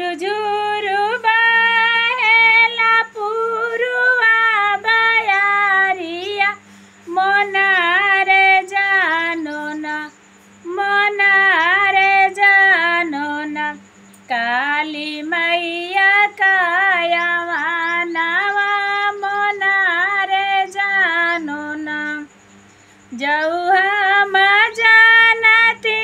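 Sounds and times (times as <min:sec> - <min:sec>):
woman singing devotional song: 0:00.0 - 0:26.0.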